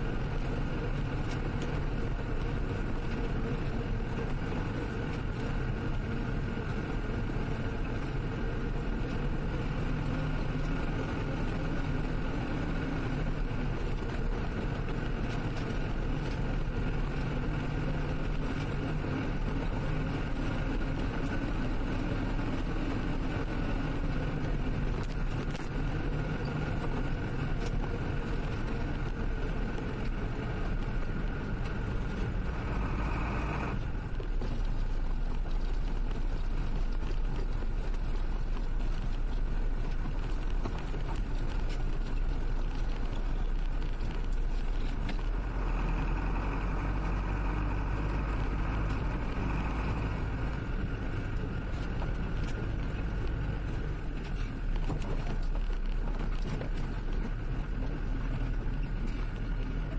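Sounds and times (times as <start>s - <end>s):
tyre and road noise: 0.0s - 59.9s
vehicle engine drone: 0.0s - 59.9s.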